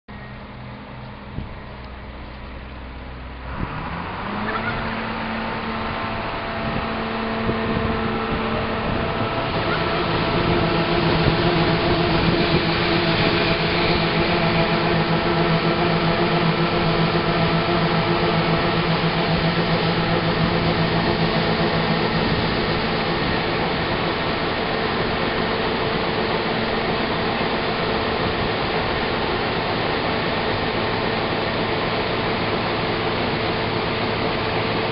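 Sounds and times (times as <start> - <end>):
combine harvester mechanical hum: 0.1 - 34.9.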